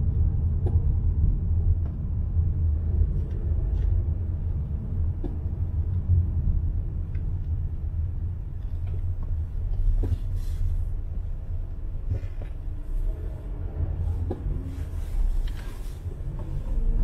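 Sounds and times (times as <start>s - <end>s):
car rumbling slowly: 0.0s - 17.0s.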